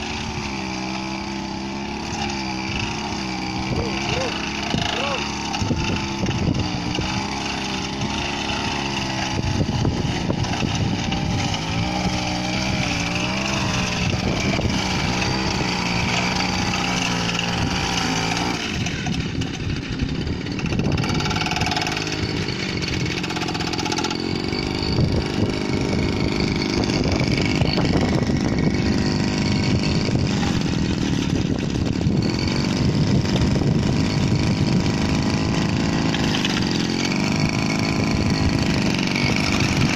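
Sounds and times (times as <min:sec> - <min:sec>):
small power weeder engine running: 0:00.0 - 0:39.9.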